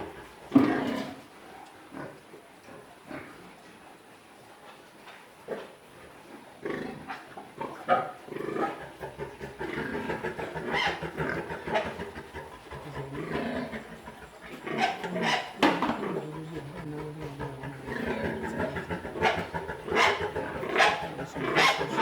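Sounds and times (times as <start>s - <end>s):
pigs grunting: 0.0s - 3.6s, 6.6s - 22.0s.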